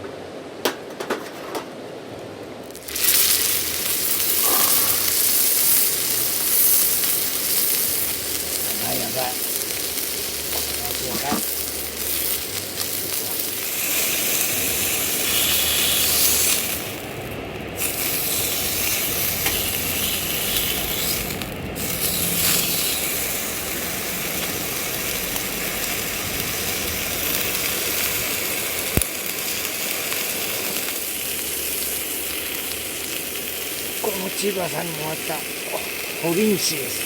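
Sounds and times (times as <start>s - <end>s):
food sizzling in a pan: 2.6s - 37.0s.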